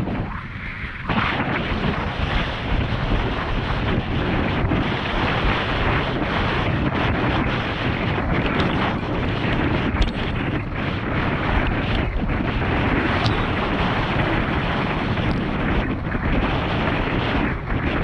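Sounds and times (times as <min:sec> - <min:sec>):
water rushing under a board: 0:00.0 - 0:18.0
wind buffeting microphone: 0:00.0 - 0:18.0.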